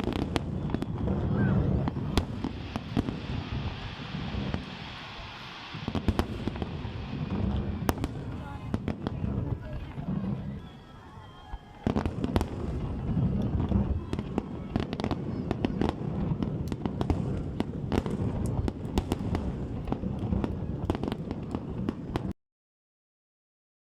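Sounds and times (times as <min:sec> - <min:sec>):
fireworks cracking and banging: 0:00.0 - 0:22.3.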